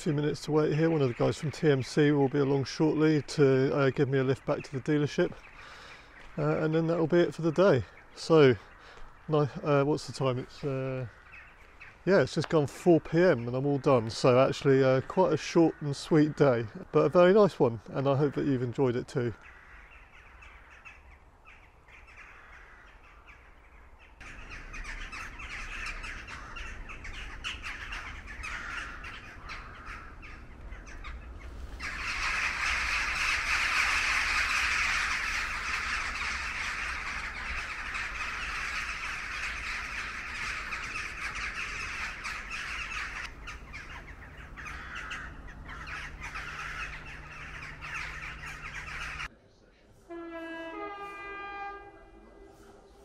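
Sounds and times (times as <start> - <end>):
crows cawing: 5.3 - 12.1, 13.2 - 49.3.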